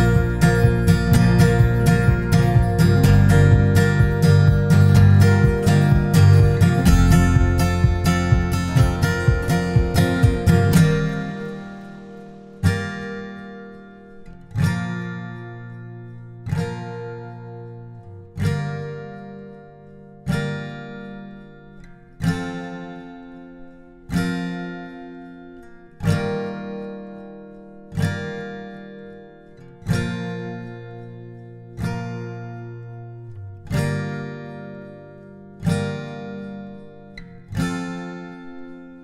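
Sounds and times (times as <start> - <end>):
acoustic guitar chords strummed: 0.0 - 39.0.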